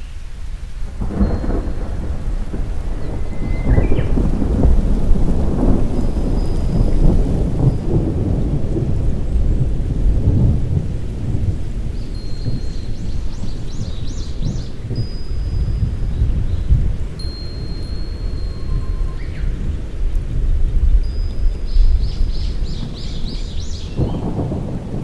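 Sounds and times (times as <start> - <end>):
rain: 0.0 - 25.0
rolling thunder: 0.8 - 25.0.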